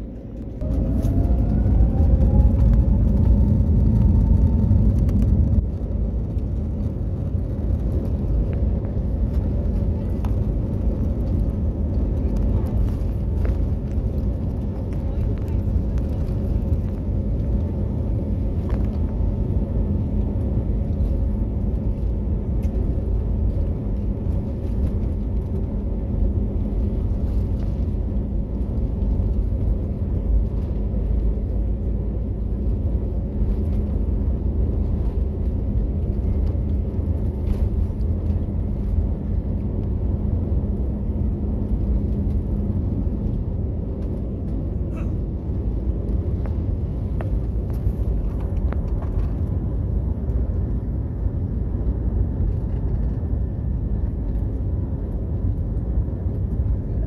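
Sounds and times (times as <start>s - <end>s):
jet engines at takeoff thrust: 0.0s - 57.0s
steady engine tones: 0.0s - 57.0s
wheels rumbling on runway: 0.0s - 57.0s.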